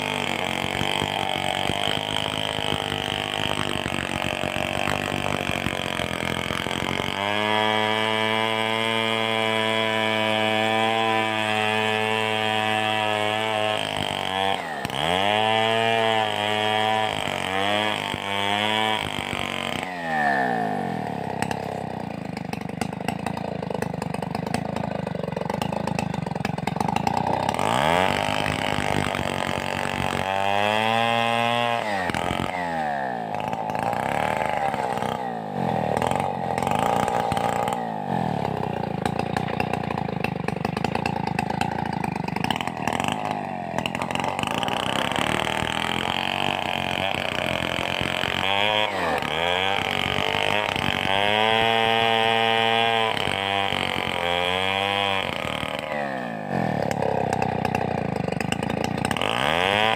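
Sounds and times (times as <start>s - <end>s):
chainsaw running hard: 0.0s - 59.9s.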